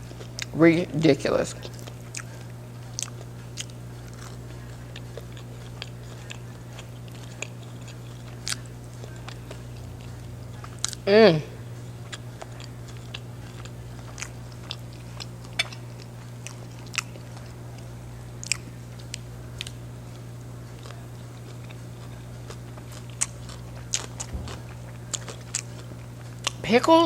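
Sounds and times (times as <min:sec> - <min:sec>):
person chewing fried fish: 0:00.0 - 0:00.5, 0:01.6 - 0:11.1, 0:11.8 - 0:26.6
steady low hum: 0:00.0 - 0:27.0.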